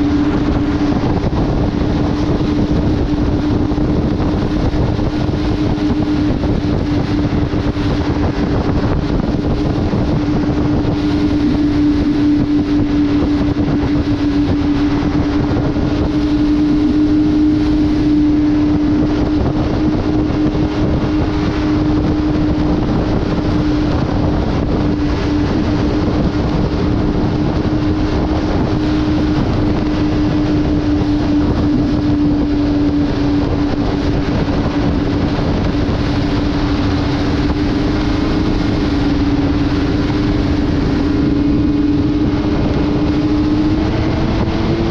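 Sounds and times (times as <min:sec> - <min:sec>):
snowmobile engine running: 0:00.0 - 0:44.9
track rushing over snow: 0:00.0 - 0:44.9
wind noise: 0:00.0 - 0:44.9.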